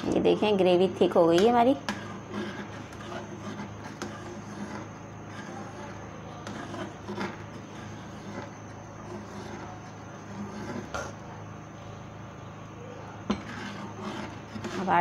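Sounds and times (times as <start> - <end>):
ladle stirring thick gravy: 0.0 - 11.4, 13.2 - 15.0
steady low hum: 0.0 - 15.0.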